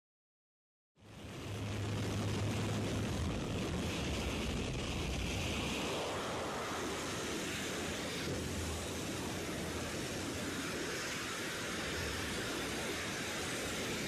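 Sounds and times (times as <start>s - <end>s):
low hum: 1.0s - 14.0s
steady rushing noise: 1.0s - 14.0s.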